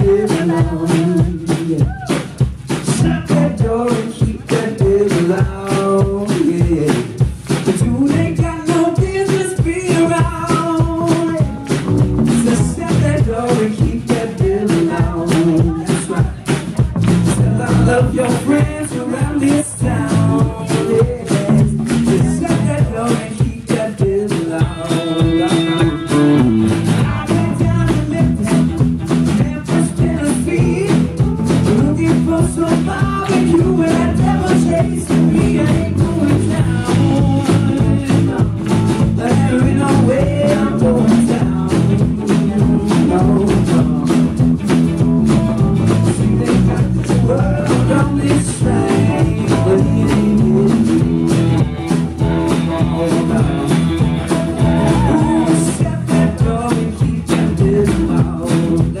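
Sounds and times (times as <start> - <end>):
acoustic guitar: 0.0 - 59.0
live rock band playing: 0.0 - 59.0
man singing: 0.0 - 59.0.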